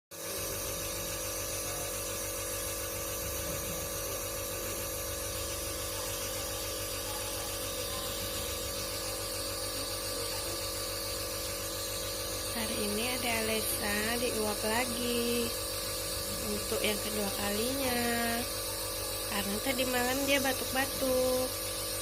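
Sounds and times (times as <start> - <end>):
nebulizer motor hum: 0.2 - 22.0.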